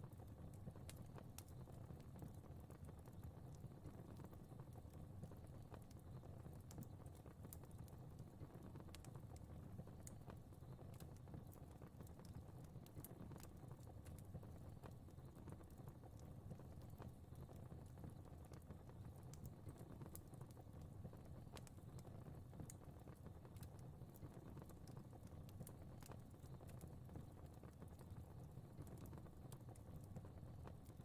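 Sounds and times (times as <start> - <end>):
low rumble of flames: 0.0 - 31.0
fire crackling: 0.2 - 31.0.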